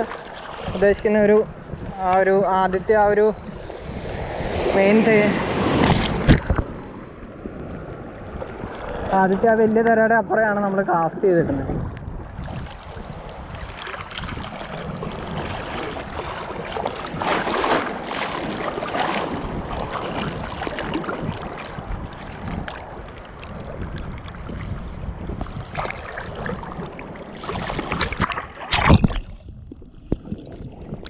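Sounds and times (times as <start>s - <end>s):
wave splash: 0.0s - 10.4s, 11.6s - 29.4s
sea surf washing: 0.0s - 28.8s
water splashing over microphone: 0.0s - 31.0s.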